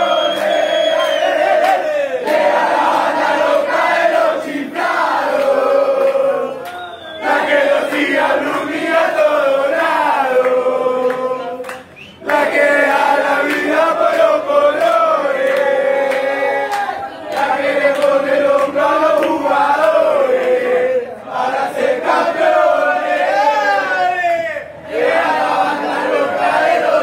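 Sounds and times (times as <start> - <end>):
crowd chanting in unison: 0.0 - 24.1, 24.8 - 27.0.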